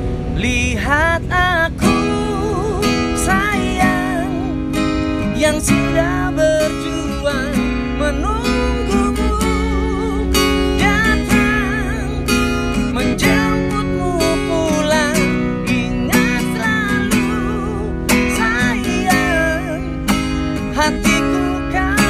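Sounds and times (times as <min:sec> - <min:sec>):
strummed acoustic guitar: 0:00.0 - 0:22.0
man singing with vibrato: 0:00.3 - 0:22.0.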